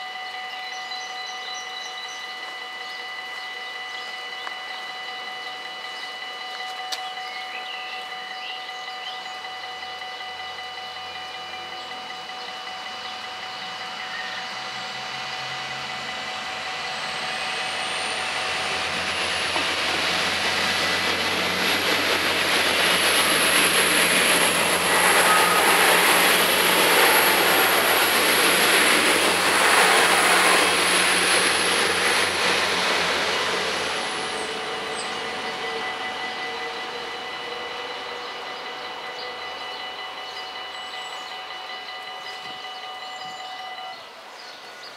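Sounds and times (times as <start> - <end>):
level crossing bells ringing: 0.0 - 32.5, 33.4 - 44.3
high whine: 0.0 - 44.3
train rumble: 0.0 - 44.9.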